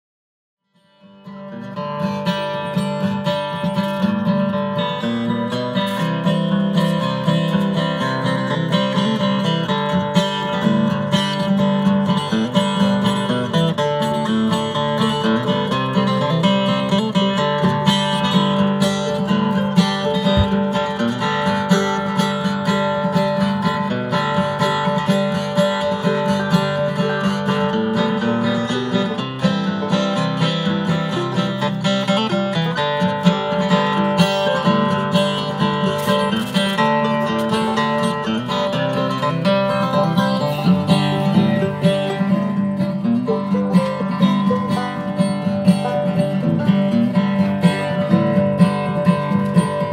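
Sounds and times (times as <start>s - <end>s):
strummed acoustic guitar music: 0.8s - 49.9s.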